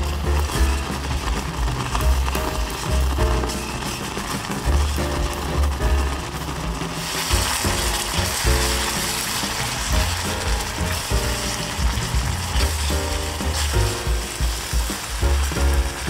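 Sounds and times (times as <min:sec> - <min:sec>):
background music with bass: 0:00.0 - 0:16.0
sauce sizzling and bubbling: 0:00.0 - 0:16.0.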